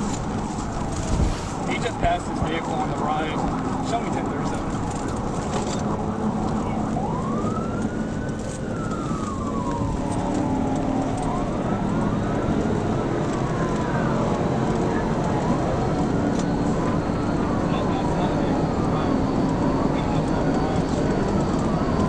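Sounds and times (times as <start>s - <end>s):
car engine and road noise: 0.0s - 22.0s
police siren wailing: 0.0s - 22.0s.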